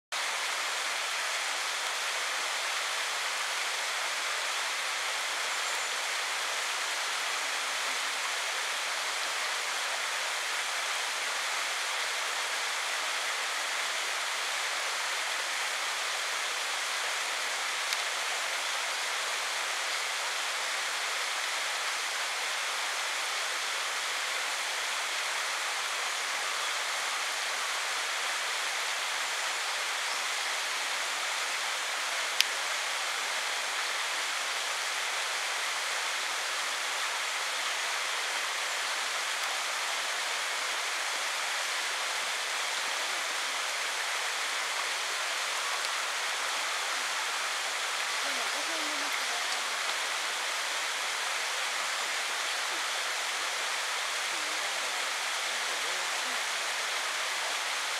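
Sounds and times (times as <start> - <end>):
waterfall pouring into pool: 0.2 - 57.9.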